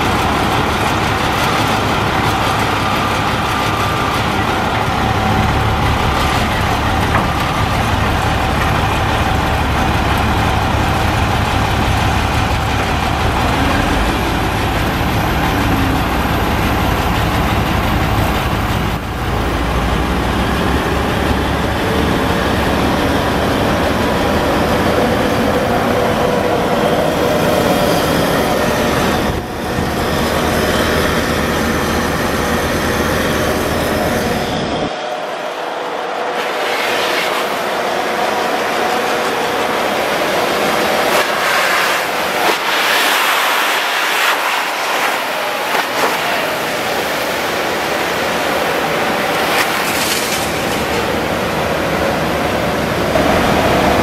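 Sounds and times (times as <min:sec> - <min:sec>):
truck diesel and vacuum running: 0:00.0 - 0:54.0.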